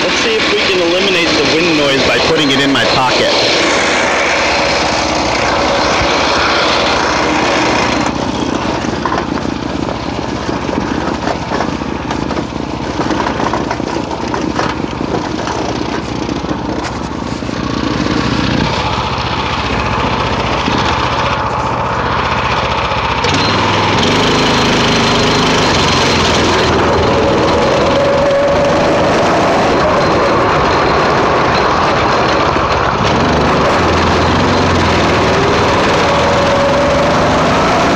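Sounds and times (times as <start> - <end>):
go-kart engine revving: 0.0 - 37.9.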